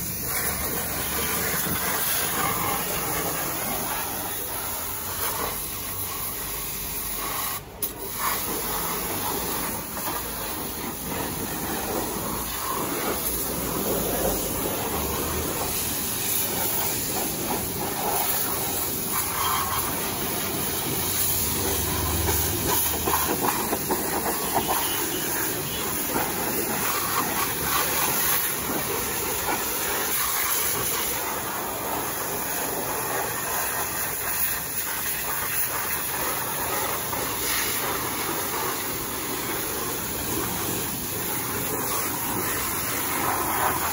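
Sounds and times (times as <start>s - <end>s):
pressure washer spraying water: 0.0s - 43.9s.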